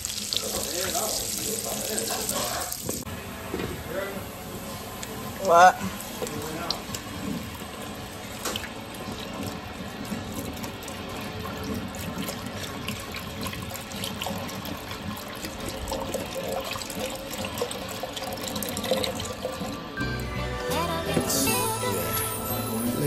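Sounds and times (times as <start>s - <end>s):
water running into sink: 0.0s - 3.1s, 4.5s - 20.0s.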